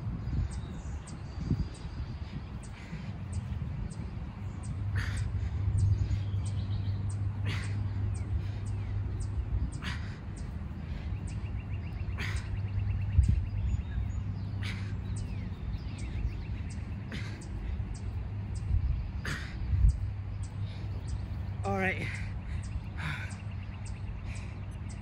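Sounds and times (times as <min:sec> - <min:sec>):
birds chirping: 0:00.0 - 0:25.0
man breathing heavily: 0:00.0 - 0:25.0.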